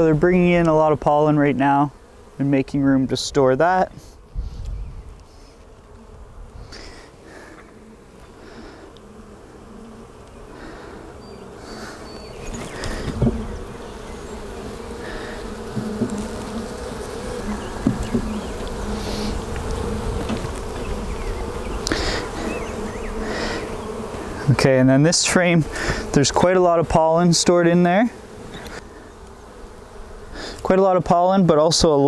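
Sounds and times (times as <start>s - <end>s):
honey bees buzzing: 0.0s - 32.0s.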